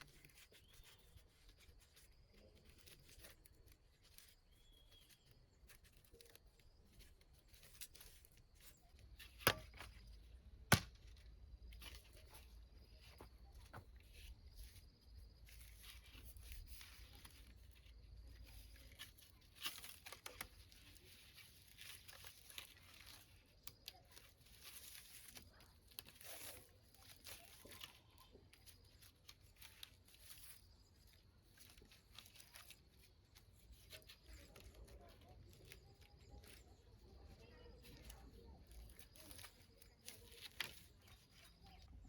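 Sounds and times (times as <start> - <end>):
faint rustling and crackling: 0.0 - 42.0.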